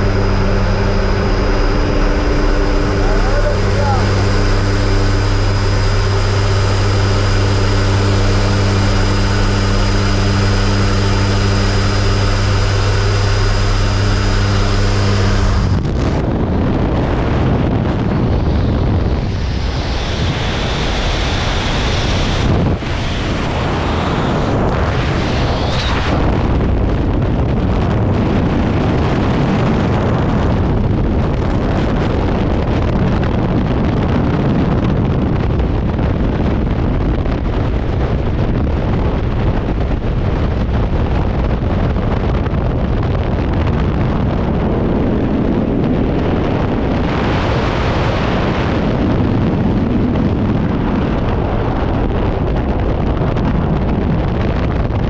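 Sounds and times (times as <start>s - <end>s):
high whine: 0.0s - 55.0s
propeller plane engines droning: 0.0s - 55.0s
wind buffeting microphone: 0.0s - 55.0s.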